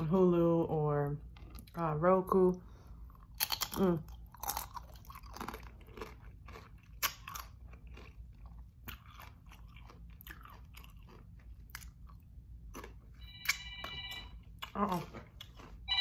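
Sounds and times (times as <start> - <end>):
chips crunching while chewed: 3.1 - 16.0.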